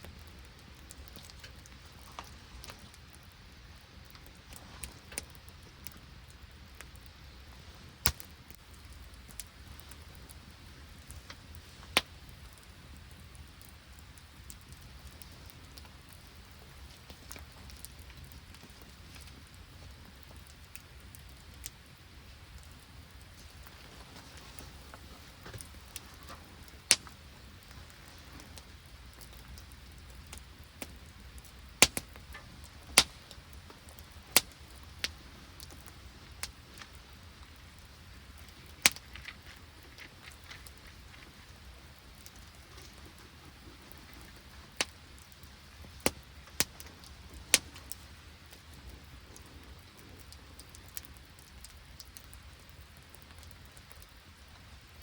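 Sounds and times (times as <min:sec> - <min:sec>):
rain and sleet hiss: 0:00.0 - 0:55.0.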